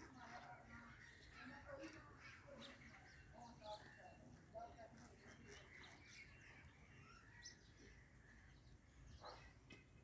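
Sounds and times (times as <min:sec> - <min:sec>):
sparrows chirping faintly: 0:00.0 - 0:10.0.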